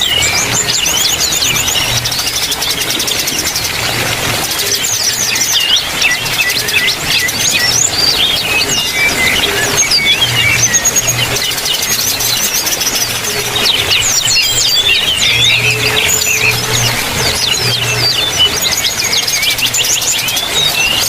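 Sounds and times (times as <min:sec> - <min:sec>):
birds chirping and twittering: 0:00.0 - 0:21.0.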